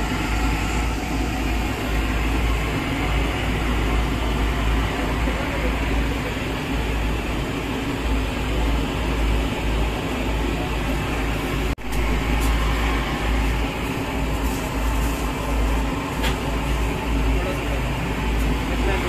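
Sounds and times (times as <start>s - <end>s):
busy food stall rumble: 0.0s - 19.0s.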